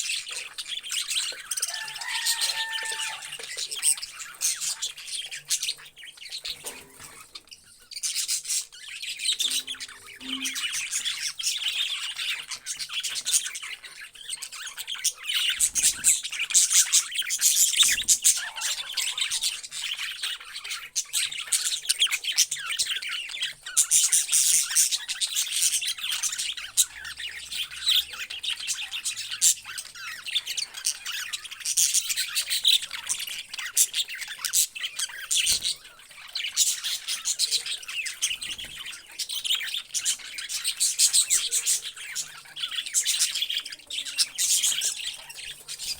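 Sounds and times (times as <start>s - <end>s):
parrots chattering and squawking: 0.0s - 45.9s.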